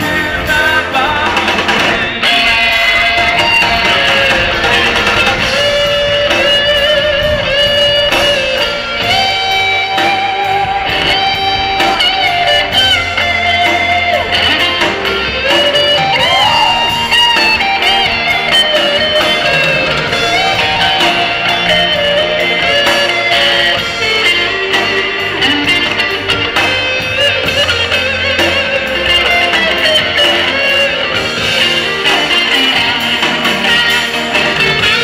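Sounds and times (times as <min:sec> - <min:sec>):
electric guitar lead melody: 0:00.0 - 0:35.0
live rock band: 0:00.0 - 0:35.0.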